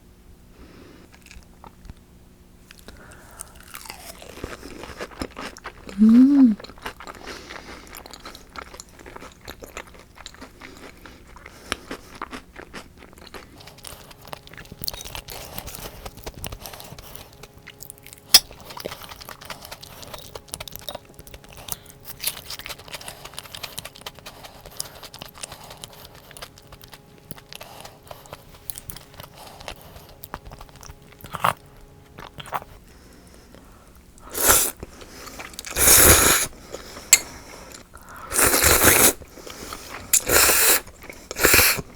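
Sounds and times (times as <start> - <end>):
chewing crunchy fried food: 0.6 - 41.9.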